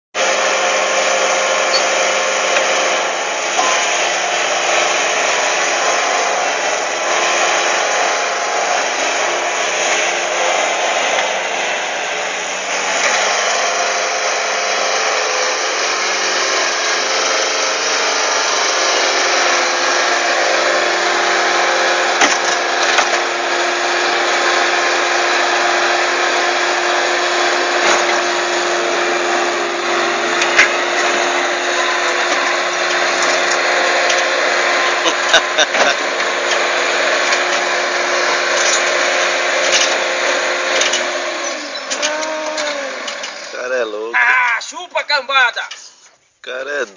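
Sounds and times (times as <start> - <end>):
diesel engine running under load: 0.2 - 44.8
hydraulics working: 0.2 - 46.9.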